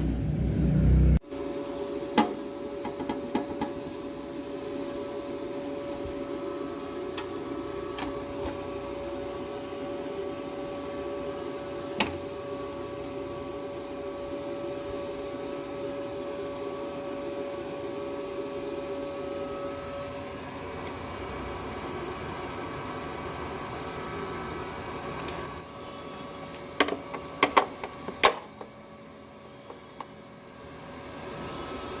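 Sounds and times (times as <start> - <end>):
welding machine humming and whining: 0.0 - 32.0.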